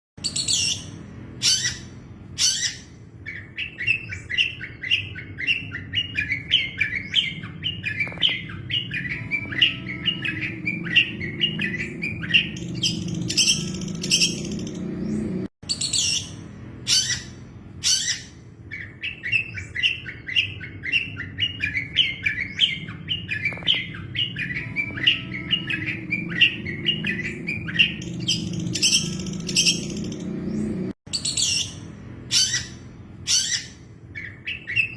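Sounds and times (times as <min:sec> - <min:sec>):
bird chattering song: 0:00.2 - 0:34.9.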